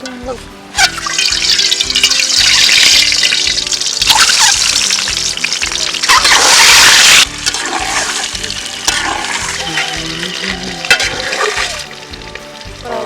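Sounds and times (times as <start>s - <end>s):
background music: 0.0s - 13.0s
water pouring and splashing: 0.7s - 13.0s.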